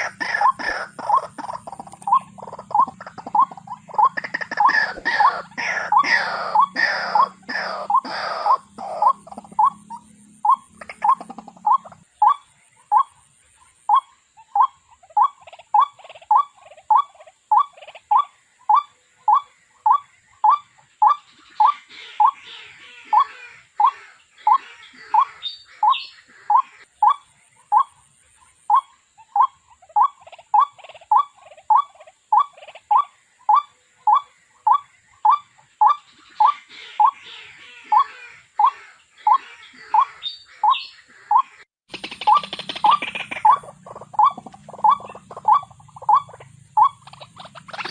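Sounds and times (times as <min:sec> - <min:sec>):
other birds chirping: 0:00.0 - 0:47.9.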